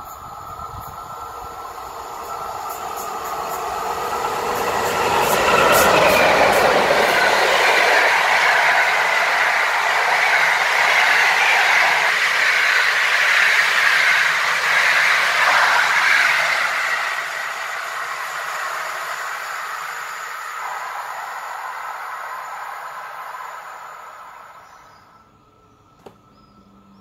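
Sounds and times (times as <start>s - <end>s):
locomotive arriving: 0.0s - 27.0s
train wheels rumbling: 0.0s - 27.0s.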